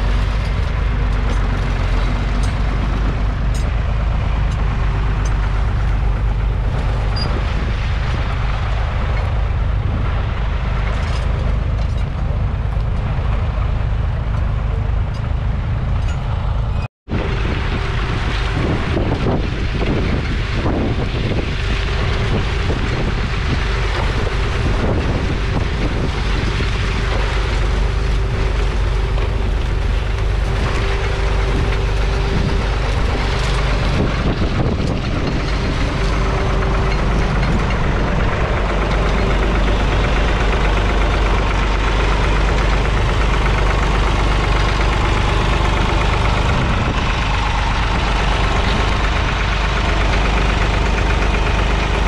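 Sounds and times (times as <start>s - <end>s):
tractor diesel engine knocking: 0.0s - 52.0s.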